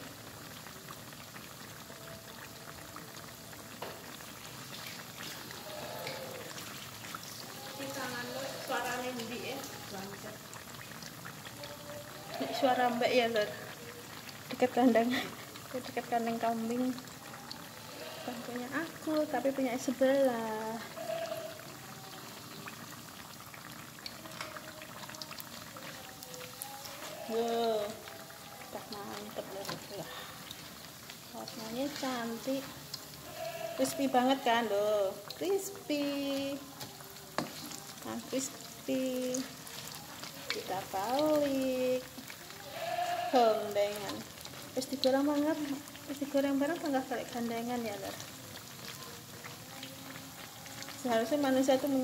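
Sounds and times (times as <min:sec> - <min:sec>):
fritters deep-frying in oil: 0:00.0 - 0:52.0.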